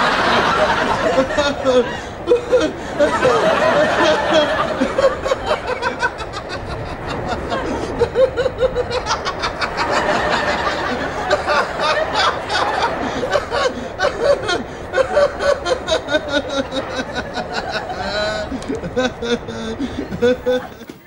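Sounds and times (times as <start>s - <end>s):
man laughing: 0.0s - 21.0s.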